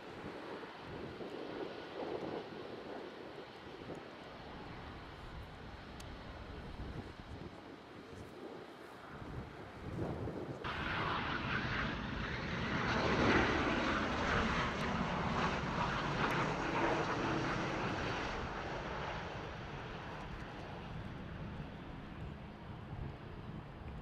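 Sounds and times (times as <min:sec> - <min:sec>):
jet engine rush: 0:00.0 - 0:24.0.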